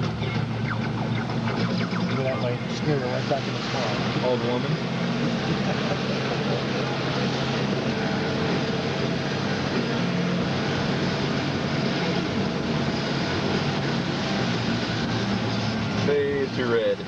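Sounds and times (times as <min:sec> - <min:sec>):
truck engine hum: 0:00.0 - 0:17.0.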